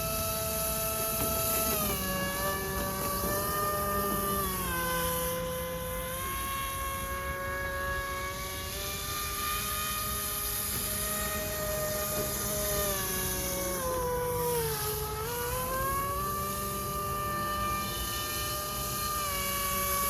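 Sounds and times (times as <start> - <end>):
electric motor and propeller whining: 0.0 - 20.0.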